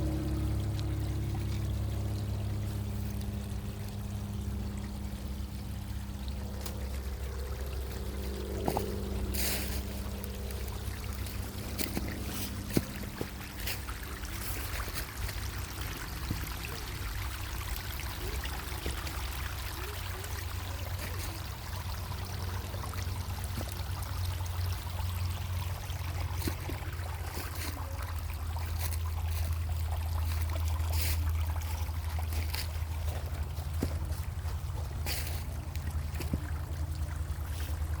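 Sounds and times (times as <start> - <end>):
creek water running: 0.0 - 38.0.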